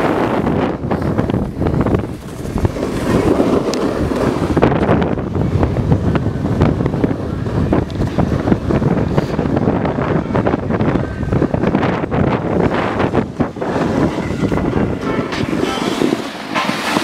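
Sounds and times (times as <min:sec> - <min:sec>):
snowboard scraping on snow: 0:00.0 - 0:10.0, 0:11.7 - 0:17.0
wind buffeting microphone: 0:00.0 - 0:17.0.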